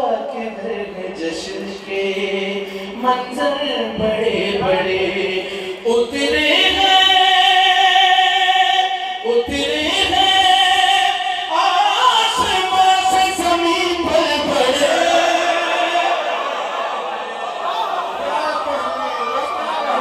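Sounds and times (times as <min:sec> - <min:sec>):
man singing into a microphone: 0:00.0 - 0:16.3.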